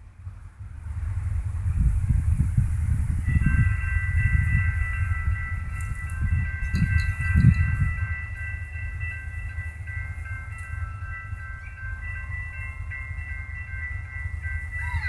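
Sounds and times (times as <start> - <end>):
railroad crossing bells ringing: 0.0 - 15.0.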